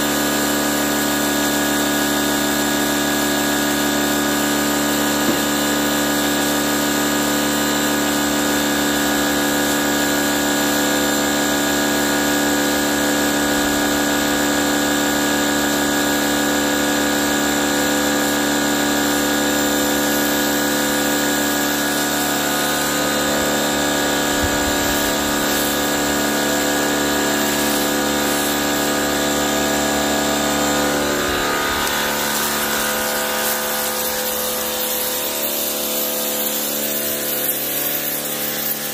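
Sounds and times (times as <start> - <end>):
pressure washer motor humming: 0.0 - 38.9
water jet hissing on concrete: 0.0 - 38.9.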